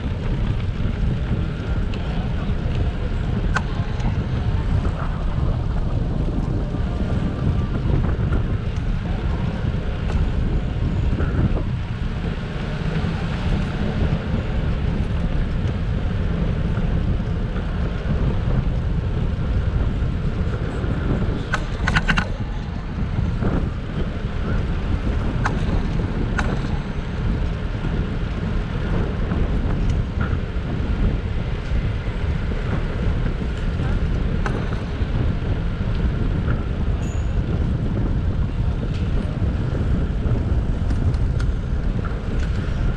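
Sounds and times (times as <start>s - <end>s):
bicycle tyres on asphalt: 0.0s - 42.9s
wind buffeting microphone: 0.0s - 42.9s.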